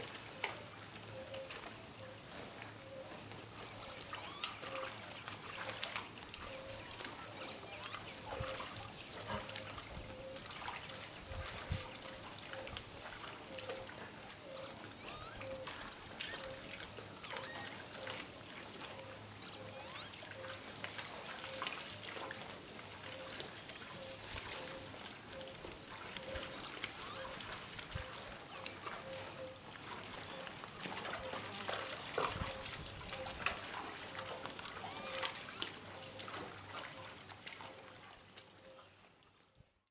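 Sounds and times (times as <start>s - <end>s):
insect chirping: 0.0s - 39.7s.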